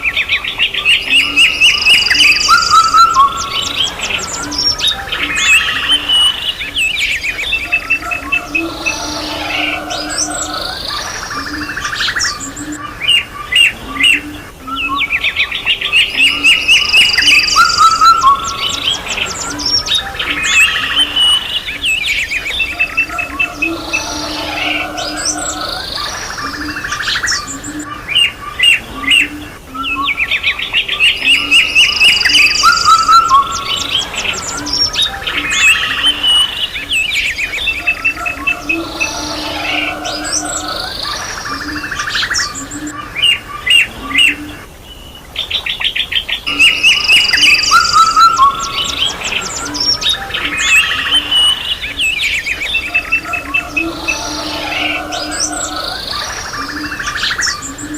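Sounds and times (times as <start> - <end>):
birds chirping and singing: 0.0 - 57.9.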